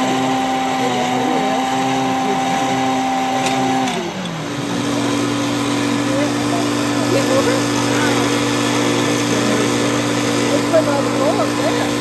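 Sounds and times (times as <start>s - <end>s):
model train motor whining: 0.0s - 12.0s.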